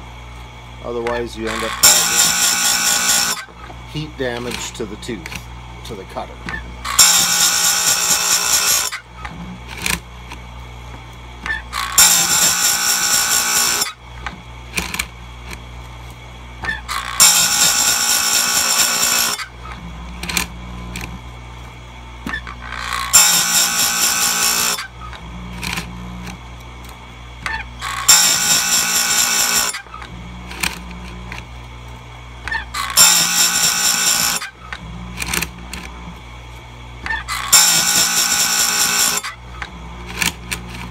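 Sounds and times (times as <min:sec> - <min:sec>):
motor humming: 0:00.0 - 0:40.9
grinder wheel grinding metal: 0:00.8 - 0:10.5, 0:11.4 - 0:15.7, 0:16.6 - 0:21.2, 0:22.2 - 0:31.6, 0:32.2 - 0:36.3, 0:37.0 - 0:40.9.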